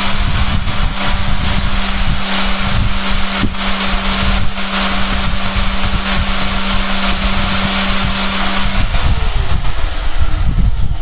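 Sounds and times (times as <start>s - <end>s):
saw blade hissing through plastic pipe: 0.0s - 10.7s
band saw running: 0.0s - 11.0s.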